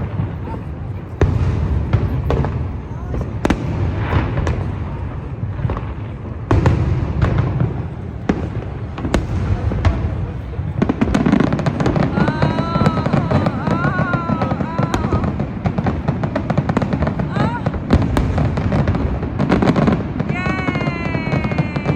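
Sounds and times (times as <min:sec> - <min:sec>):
firework shells booming: 0:00.0 - 0:21.9
rapid firework crackling: 0:00.0 - 0:21.9.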